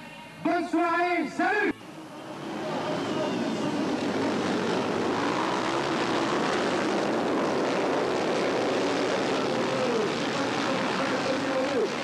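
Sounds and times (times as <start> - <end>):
motorcycles racing at full throttle: 1.8 - 12.0.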